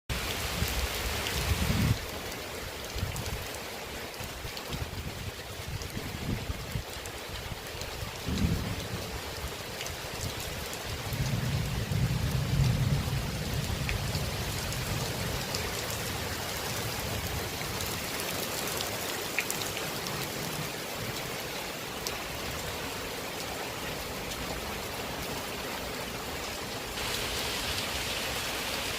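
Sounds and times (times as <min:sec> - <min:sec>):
rain falling: 0:00.1 - 0:28.9.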